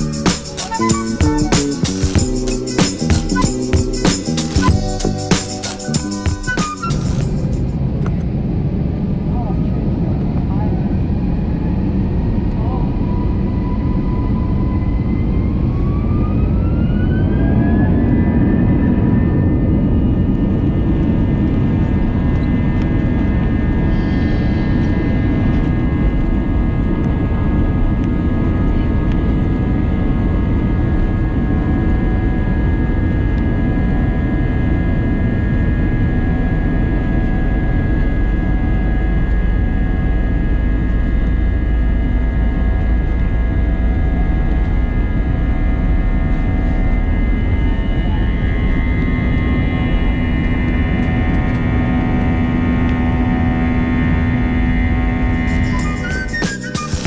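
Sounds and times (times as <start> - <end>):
jet engines whining: 0.0 - 57.0
takeoff roll rumble: 0.0 - 57.0.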